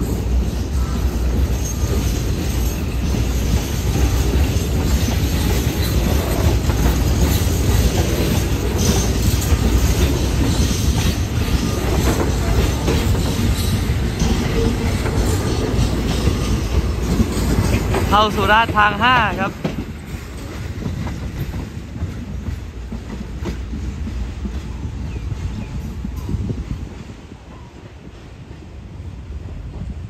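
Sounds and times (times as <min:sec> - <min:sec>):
train wheels clattering over rail joints: 0:00.0 - 0:27.2.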